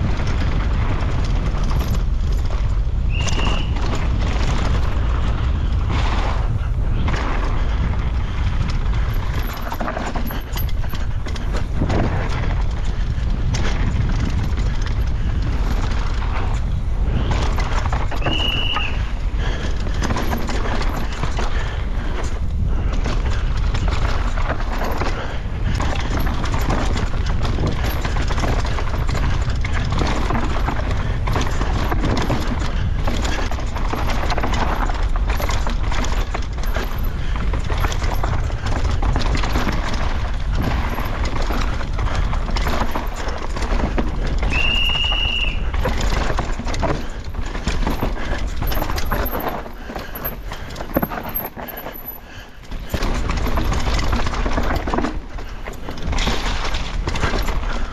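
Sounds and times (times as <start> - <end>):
bike rattling over rocks: 0.0 - 57.9.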